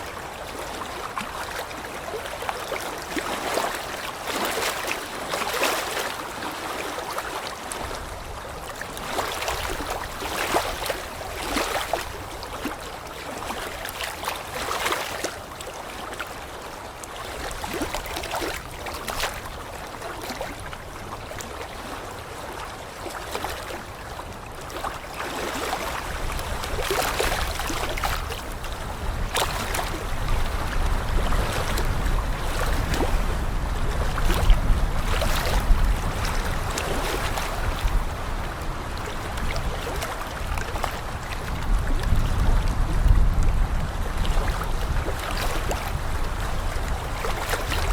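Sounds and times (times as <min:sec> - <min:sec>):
water rushing and splashing: 0:00.0 - 0:47.9
wind rumble on microphone: 0:00.0 - 0:47.9.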